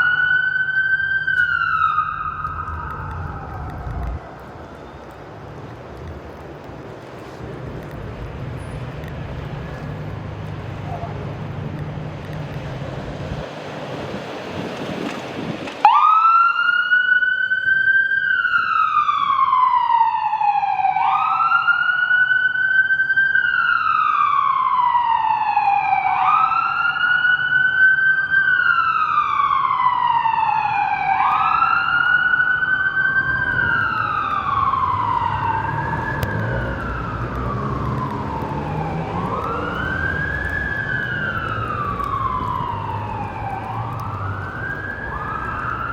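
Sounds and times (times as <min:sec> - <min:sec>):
emergency siren wailing: 0:00.0 - 0:05.8, 0:09.2 - 0:45.9
street noise: 0:00.0 - 0:45.9.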